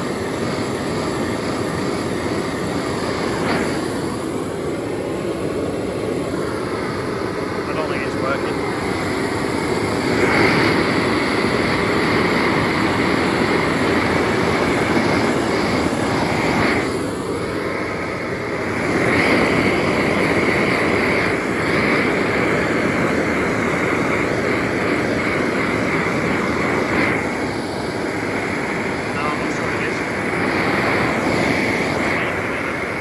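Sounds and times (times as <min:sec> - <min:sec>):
blow lamp rushing hiss: 0:00.0 - 0:33.0.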